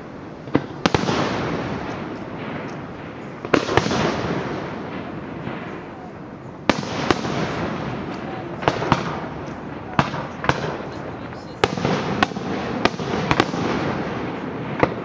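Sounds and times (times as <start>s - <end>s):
fireworks bursting with sharp bangs: 0.0s - 15.0s
fireworks crackle and echo: 0.0s - 15.0s.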